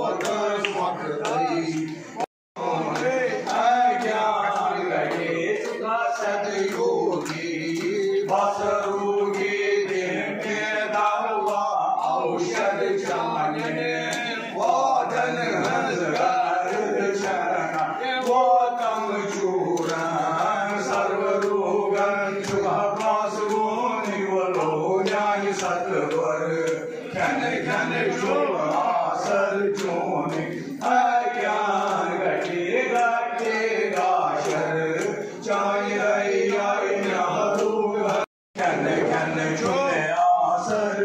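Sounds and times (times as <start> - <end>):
men chanting mantras: 0.0 - 41.0.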